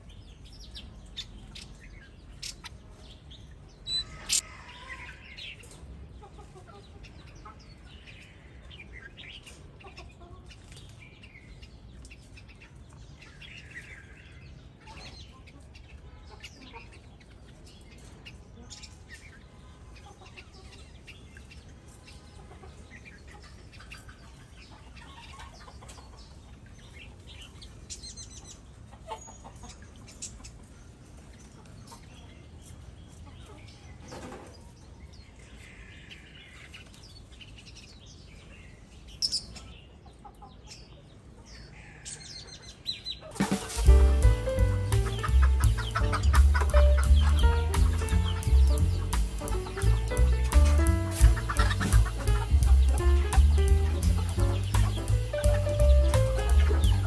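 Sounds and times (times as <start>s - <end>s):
small birds chirping: 0.0s - 57.0s
chickens clucking: 0.7s - 11.0s, 14.7s - 38.1s, 38.8s - 57.0s.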